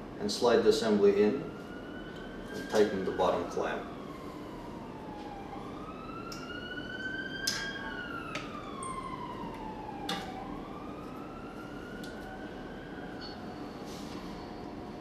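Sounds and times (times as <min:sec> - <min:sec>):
siren wailing: 0:00.5 - 0:15.0.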